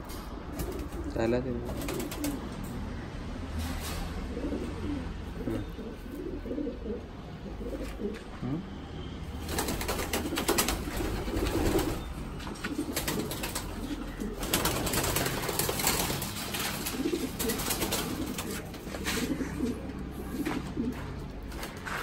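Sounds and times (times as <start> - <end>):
pigeons cooing: 0.4 - 2.7, 3.8 - 8.3, 9.4 - 22.0.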